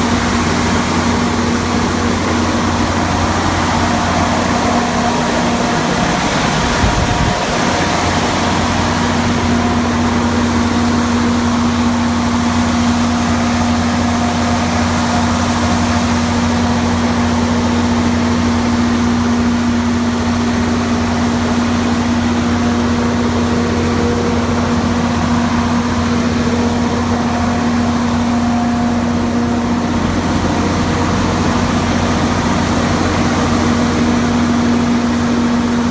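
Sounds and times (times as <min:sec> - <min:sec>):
diesel generator engine running: 0:00.0 - 0:35.9.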